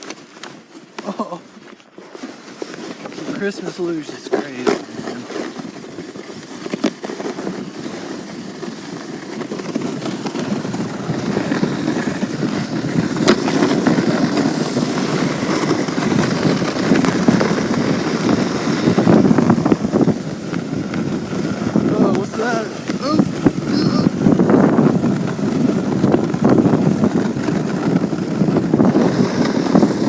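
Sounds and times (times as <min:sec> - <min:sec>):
sled runners scraping on snow: 0:00.0 - 0:30.0.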